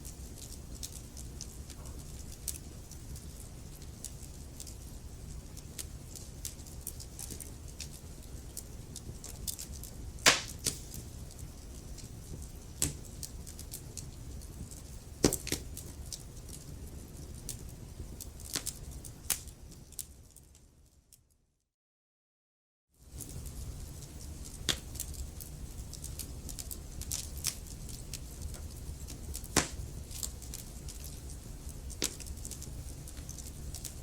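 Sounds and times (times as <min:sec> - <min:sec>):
wood fire crackling: 0:00.0 - 0:21.2, 0:23.0 - 0:34.0.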